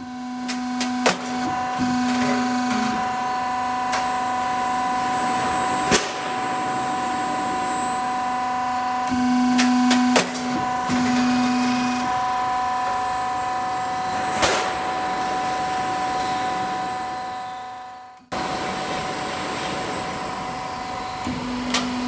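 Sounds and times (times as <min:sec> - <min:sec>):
roll forming machine humming: 0:00.0 - 0:22.0
louder low hum: 0:00.7 - 0:22.0.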